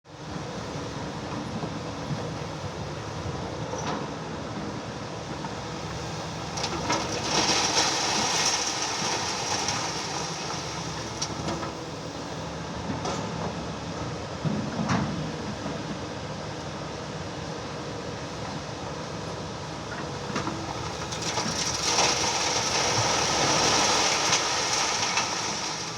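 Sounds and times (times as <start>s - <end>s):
excavator diesel engine running: 0.1s - 25.9s.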